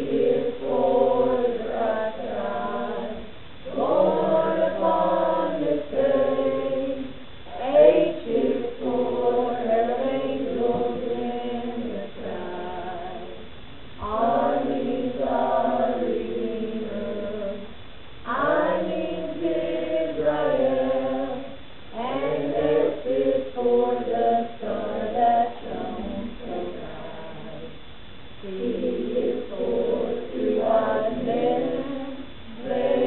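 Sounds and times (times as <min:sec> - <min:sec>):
mixed choir singing: 0:00.0 - 0:27.8, 0:28.4 - 0:33.0.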